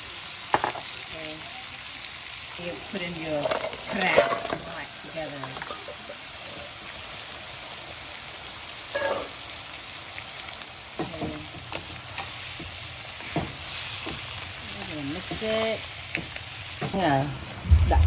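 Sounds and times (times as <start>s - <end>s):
butter and garlic sizzling: 0.0s - 18.0s.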